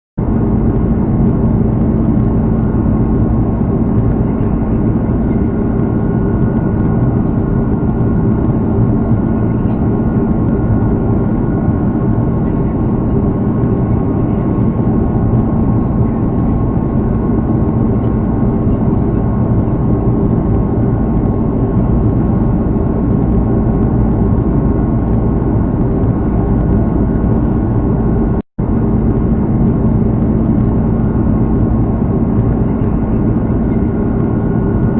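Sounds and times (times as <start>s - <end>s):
jet engines droning in cabin: 0.2s - 34.9s.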